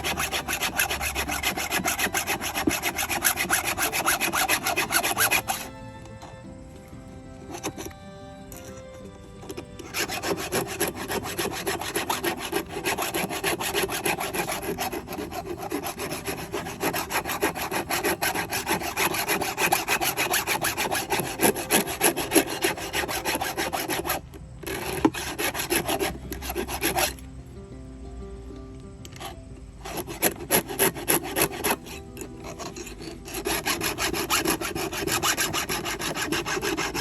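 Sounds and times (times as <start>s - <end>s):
hand file rasping on chain: 0.0s - 6.4s, 7.4s - 27.2s, 29.2s - 37.0s.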